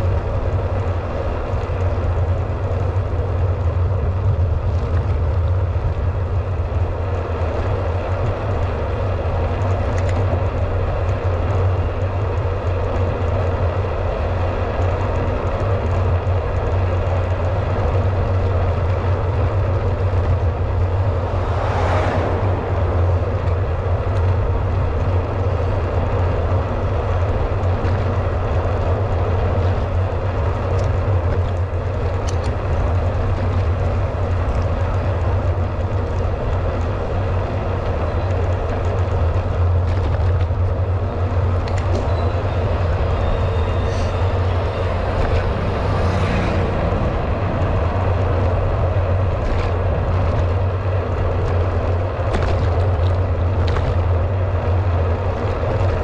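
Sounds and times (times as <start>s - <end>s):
rolling road noise: 0.0s - 56.0s
wind rumble on microphone: 0.0s - 56.0s.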